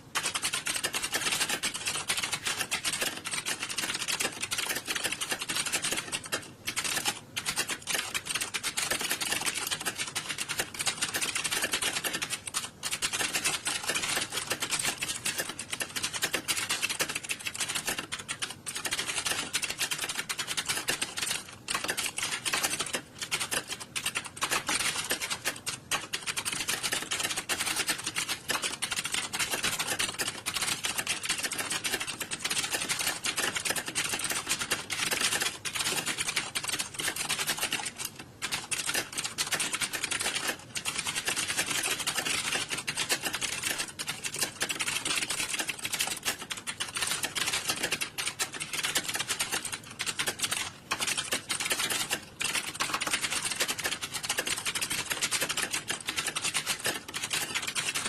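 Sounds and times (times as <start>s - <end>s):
many keyboards typing: 0.0s - 58.0s.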